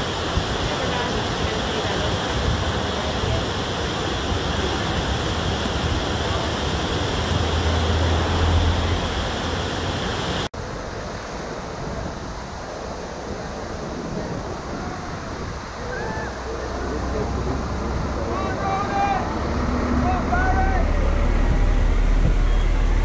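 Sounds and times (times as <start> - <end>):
water rushing over weir: 0.0 - 23.0.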